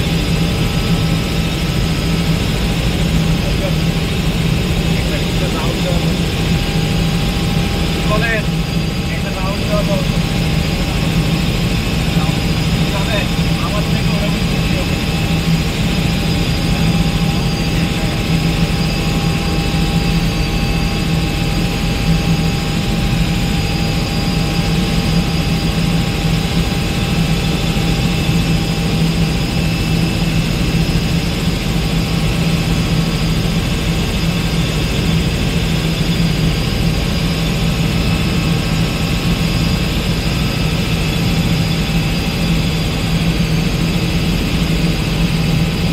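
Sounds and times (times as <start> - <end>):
helicopter rotor and turbine drone: 0.0 - 45.9
high turbine whine: 0.0 - 45.9.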